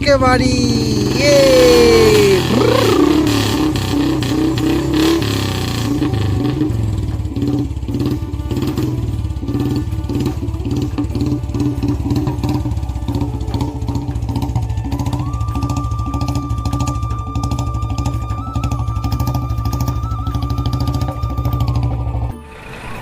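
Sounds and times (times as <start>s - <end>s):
toy motorbike electronic engine sound: 0.0s - 23.0s.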